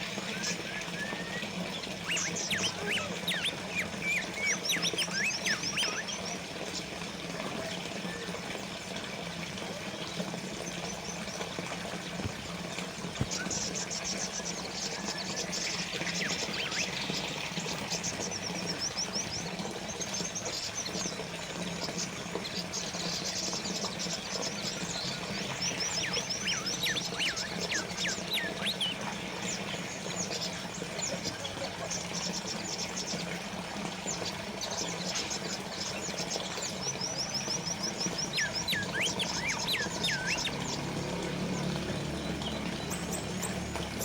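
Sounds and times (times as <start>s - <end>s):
small birds chirping: 0.0s - 8.4s, 9.2s - 44.0s
water trickling from fountain: 0.0s - 44.0s.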